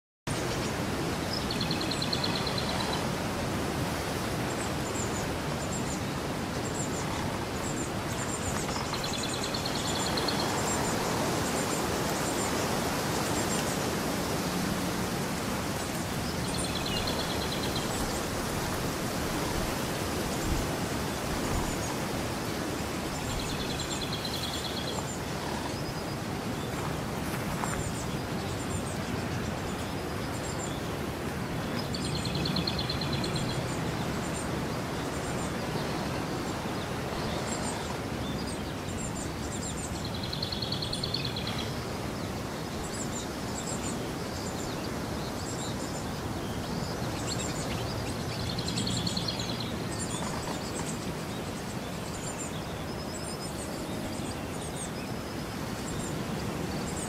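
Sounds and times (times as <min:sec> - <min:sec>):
rushing outdoor noise: 0:00.3 - 0:57.0.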